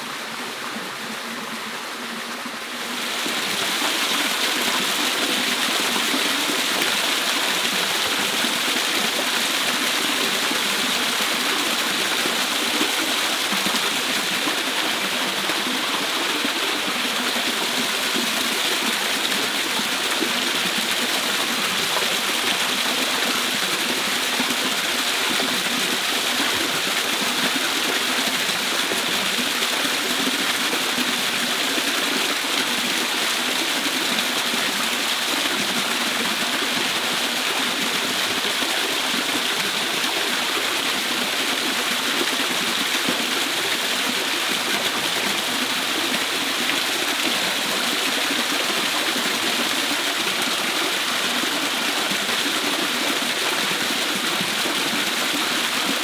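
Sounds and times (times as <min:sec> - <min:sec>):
waterfall pouring over rocks: 0:00.0 - 0:56.0.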